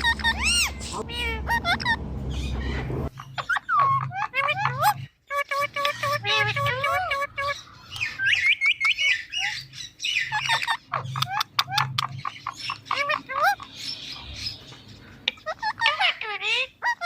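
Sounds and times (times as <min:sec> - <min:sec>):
parakeet chirping and squawking: 0:00.0 - 0:17.0.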